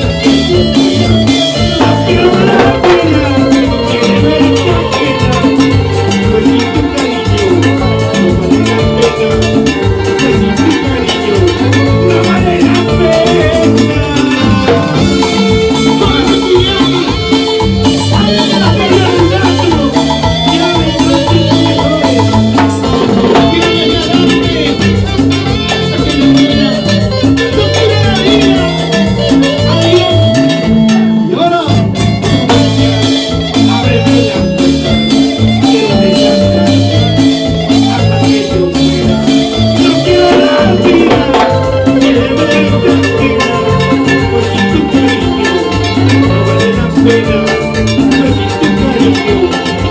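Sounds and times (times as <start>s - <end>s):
band playing salsa music: 0.0s - 49.9s.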